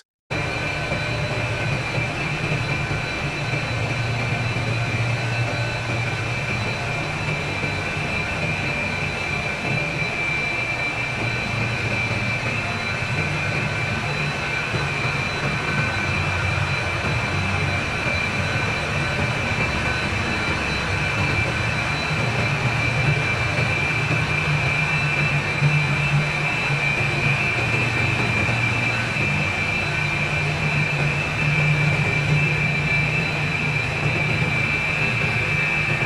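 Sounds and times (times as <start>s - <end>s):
chiller machinery humming: 0.3s - 36.0s.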